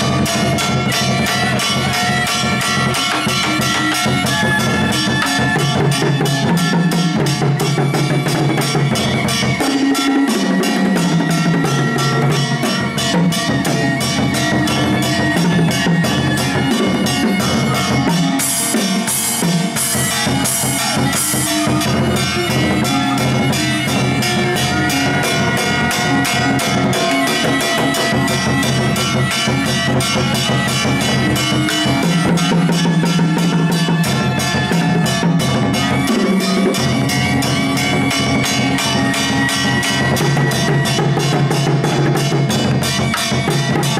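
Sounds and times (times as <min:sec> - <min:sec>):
cymbal crashes: 0:00.0 - 0:43.9
fast stick drumming: 0:00.0 - 0:43.9
pitched instruments playing: 0:00.0 - 0:43.9.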